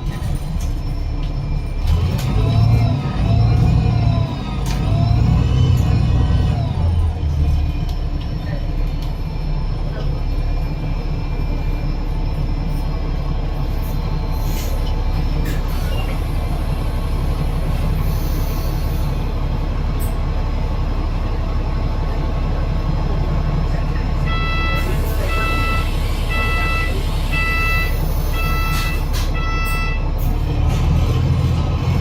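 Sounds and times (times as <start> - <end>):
bus engine drone with whine: 0.0 - 32.0.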